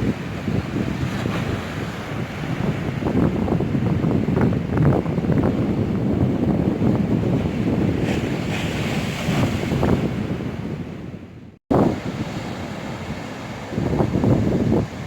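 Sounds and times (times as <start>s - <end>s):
stormy sea waves: 0.0s - 15.0s
strong wind buffeting microphone: 0.0s - 15.0s.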